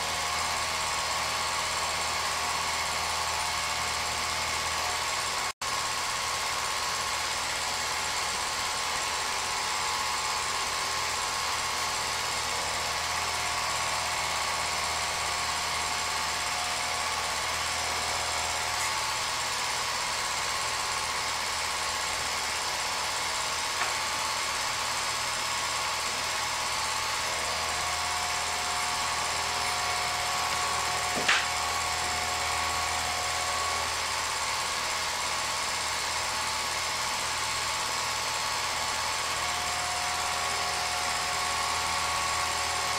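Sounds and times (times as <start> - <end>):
film projector whirring: 0.0 - 42.9.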